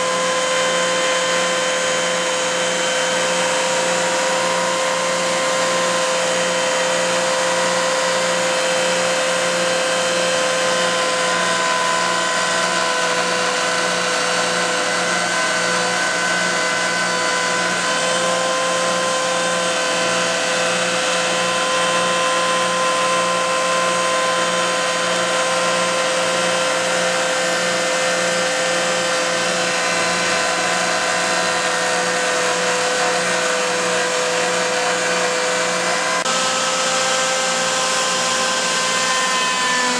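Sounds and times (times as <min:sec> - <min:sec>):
router motor whining: 0:00.0 - 0:39.9.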